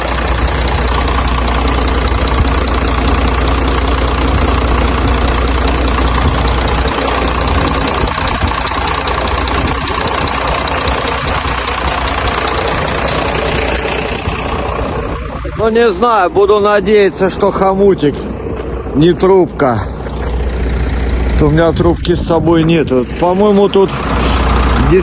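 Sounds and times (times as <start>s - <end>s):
engine cooling fan running: 0.0s - 25.0s
truck engine idling: 0.0s - 25.0s.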